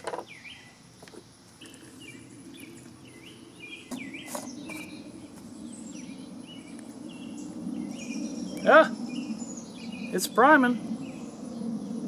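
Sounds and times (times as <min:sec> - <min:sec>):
bird chirping: 0:00.2 - 0:00.8, 0:01.6 - 0:12.0
low steady rush: 0:01.7 - 0:12.0.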